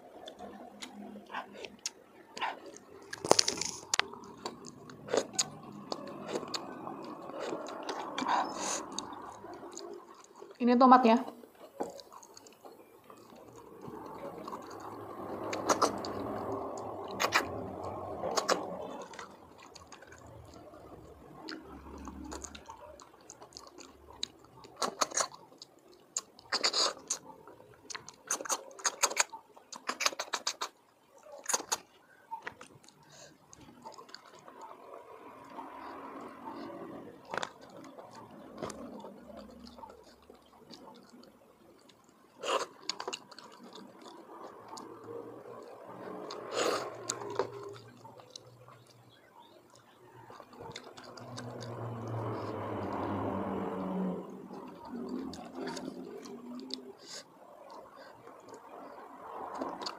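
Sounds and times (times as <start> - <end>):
chewing: 0.0 - 59.9
wet slurping and sucking: 0.2 - 10.5, 11.6 - 27.3, 32.9 - 48.5, 50.3 - 59.9.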